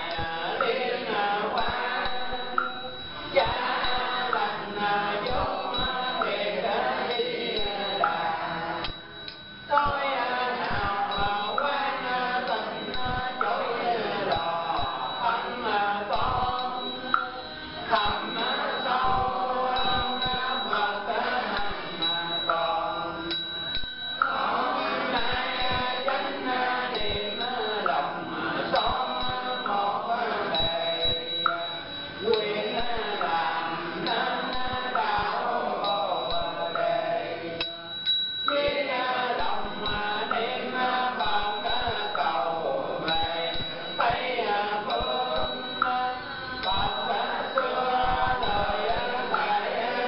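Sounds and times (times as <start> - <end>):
steady knocking beat: 0.0 - 28.1, 28.7 - 30.0, 30.6 - 37.0, 39.4 - 42.4, 43.0 - 46.0, 46.6 - 49.7
group chanting: 0.0 - 50.0.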